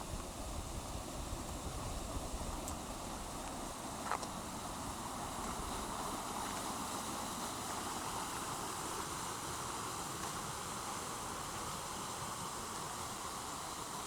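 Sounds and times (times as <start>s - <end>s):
distant flowing water: 0.0s - 14.0s.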